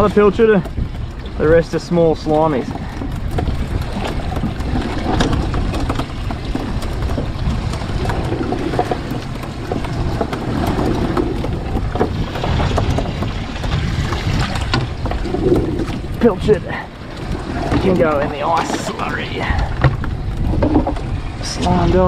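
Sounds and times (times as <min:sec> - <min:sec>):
boat rocking on rough sea: 0:00.0 - 0:22.0
wind buffeting the microphone: 0:00.0 - 0:22.0.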